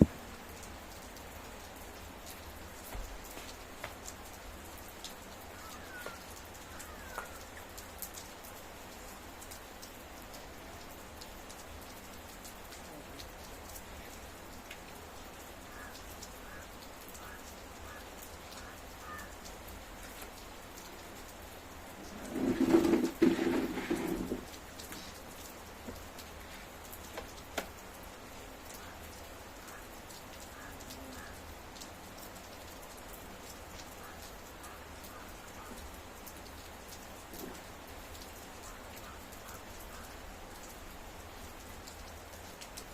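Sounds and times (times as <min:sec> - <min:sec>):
raindrops ticking on a surface: 0:00.0 - 0:42.9
steady rain falling: 0:00.0 - 0:42.9.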